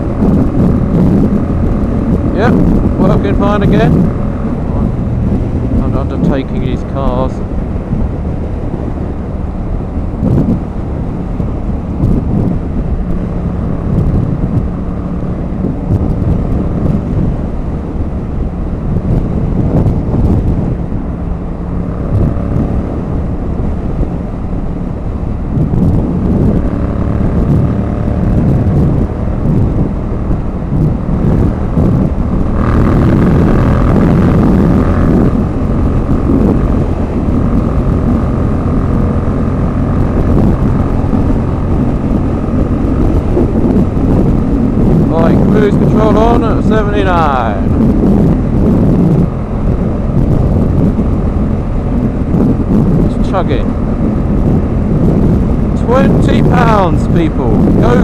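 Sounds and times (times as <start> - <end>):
loud rush of noise: 0.0 - 58.0
motorcycle engine running: 0.0 - 58.0
wind buffeting microphone: 0.0 - 58.0.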